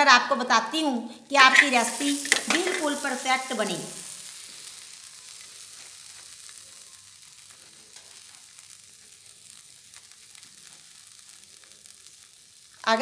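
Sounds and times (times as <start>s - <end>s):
food sizzling on griddle: 0.0s - 13.0s.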